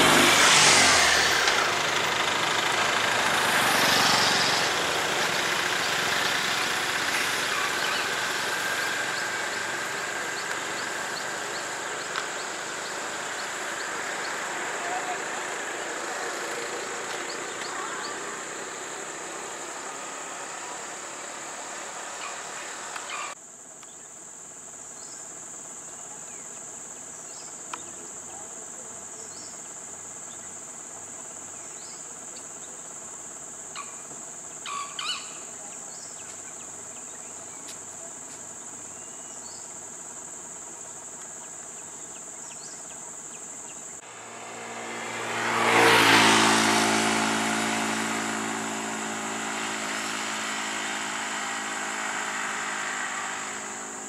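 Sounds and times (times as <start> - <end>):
high-pitched insect drone: 0.0 - 23.4, 24.0 - 54.0
motorcycle engine: 0.0 - 23.4, 29.3 - 54.0
insect chirps: 0.0 - 54.0.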